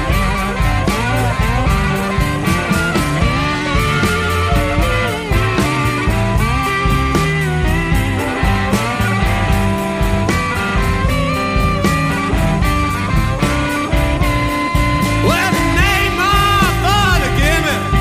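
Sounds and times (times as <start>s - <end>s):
blues guitar over a beat: 0.0s - 18.0s
sliding high guitar notes: 0.0s - 18.0s.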